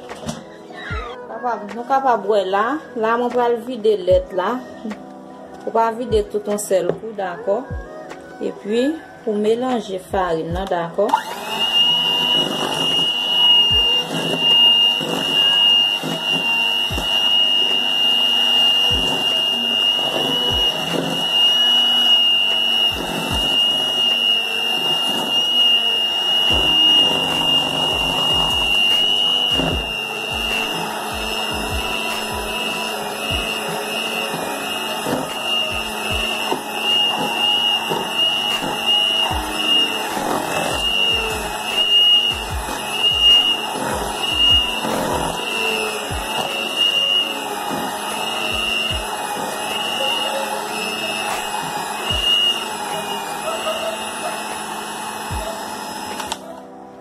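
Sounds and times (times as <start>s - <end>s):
electric hand mixer whining: 0.0s - 5.0s, 5.6s - 57.0s.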